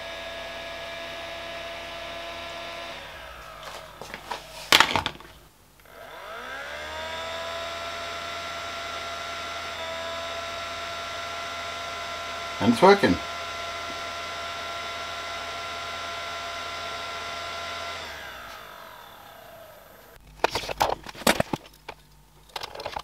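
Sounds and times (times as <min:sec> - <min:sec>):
cooling fan whine: 0:00.0 - 0:22.9.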